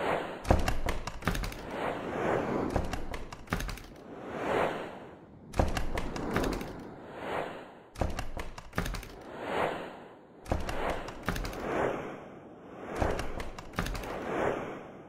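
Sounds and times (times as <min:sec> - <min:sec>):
noisy whooshes: 0:00.0 - 0:08.5, 0:09.1 - 0:15.0.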